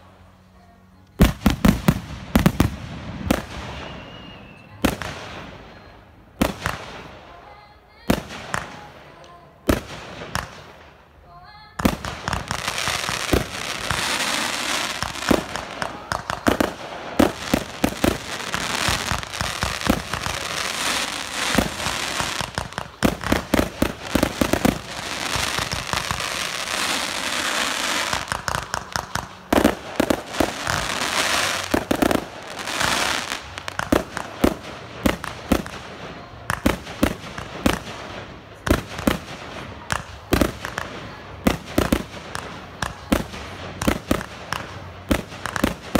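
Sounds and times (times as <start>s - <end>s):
fireworks crackle: 0.0s - 45.9s.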